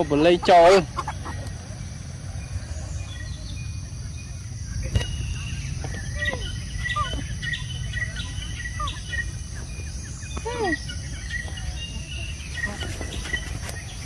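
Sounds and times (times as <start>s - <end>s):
high insect drone: 0.0s - 14.0s
small birds chirping: 0.0s - 14.0s.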